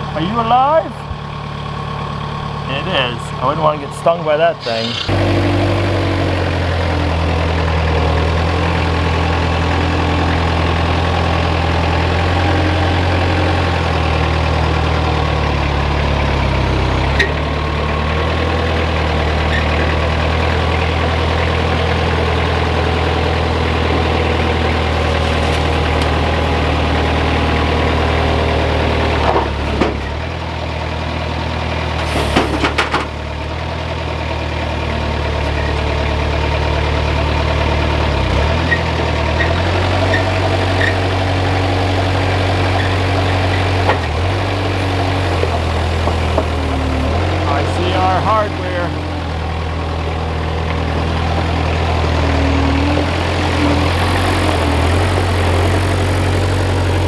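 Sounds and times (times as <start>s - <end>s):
forklift engine running: 0.0s - 57.0s.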